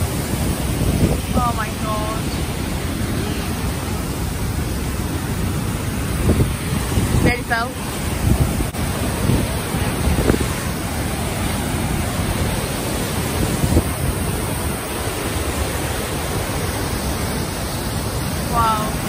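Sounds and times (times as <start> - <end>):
waterfall roaring: 0.0 - 19.0
wind on microphone: 0.0 - 19.0.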